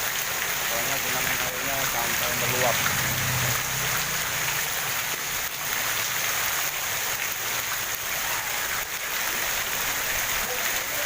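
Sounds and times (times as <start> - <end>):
heavy rain on flooded street: 0.0 - 11.0.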